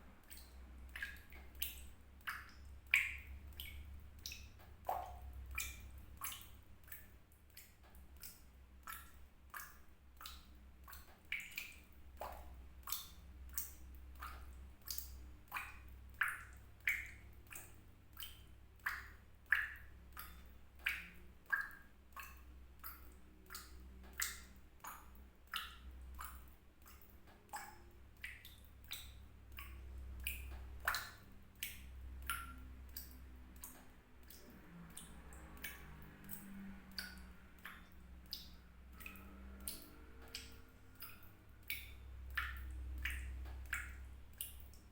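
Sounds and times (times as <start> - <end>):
water drops plinking into water: 0.1 - 44.9.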